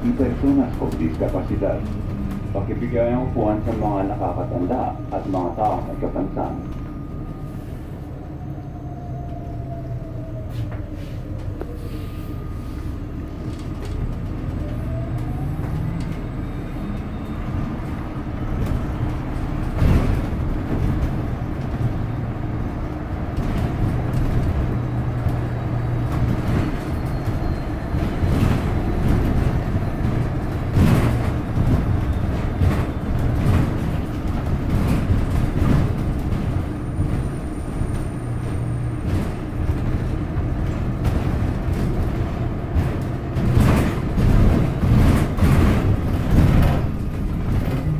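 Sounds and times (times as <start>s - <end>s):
bus engine hum: 0.0s - 47.9s
road noise: 0.0s - 47.9s.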